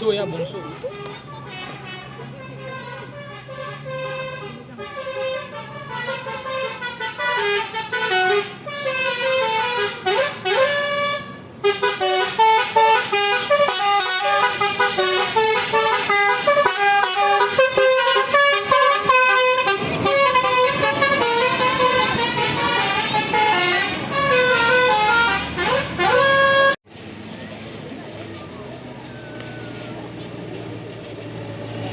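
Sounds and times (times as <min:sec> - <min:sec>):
musical bus air horn melody: 0:00.5 - 0:26.8.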